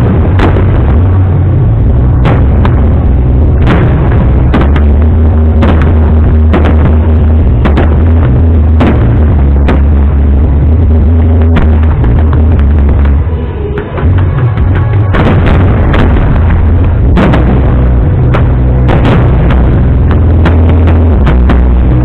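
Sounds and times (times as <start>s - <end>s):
deep rumble: 0.0s - 22.0s
fireworks bangs: 0.0s - 22.0s.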